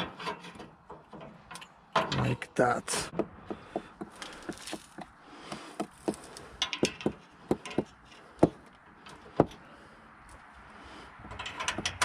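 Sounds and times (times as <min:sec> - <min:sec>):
car parts clicking and knocking: 0:00.0 - 0:02.4, 0:03.1 - 0:10.5, 0:11.2 - 0:12.0.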